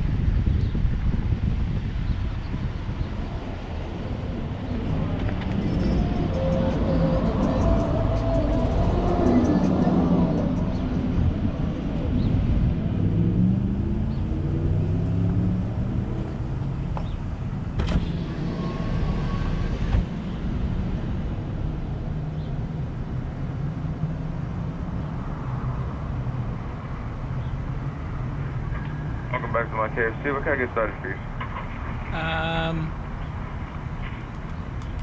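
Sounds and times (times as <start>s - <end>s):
car engine slowing and idling: 3.7s - 32.1s.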